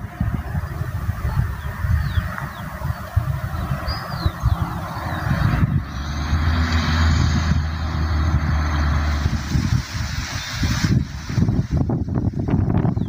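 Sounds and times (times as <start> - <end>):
vehicle engine humming: 0.0 - 12.4
wind buffeting microphone: 0.0 - 13.0.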